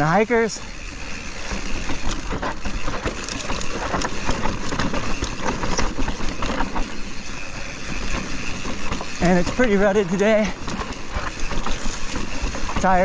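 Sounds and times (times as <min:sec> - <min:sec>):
bike rattles and clicks: 0:00.0 - 0:13.0
tyres rumbling over rock and dirt: 0:01.6 - 0:13.0.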